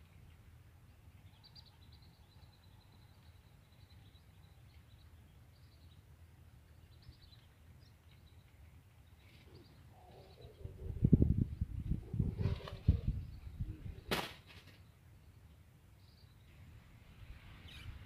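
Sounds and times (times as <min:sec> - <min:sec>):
faint bird chirps: 0:00.0 - 0:06.1, 0:06.7 - 0:16.7, 0:17.4 - 0:18.0.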